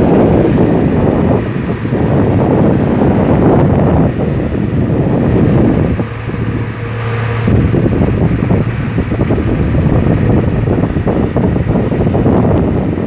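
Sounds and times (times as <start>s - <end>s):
low even hum: 0.0s - 13.0s
machinery drone: 0.0s - 13.0s
wind buffeting microphone: 0.0s - 13.0s.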